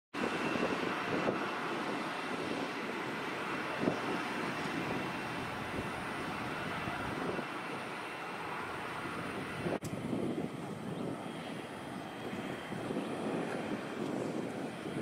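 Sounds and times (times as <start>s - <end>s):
distant jet airliner roar: 0.2s - 15.0s.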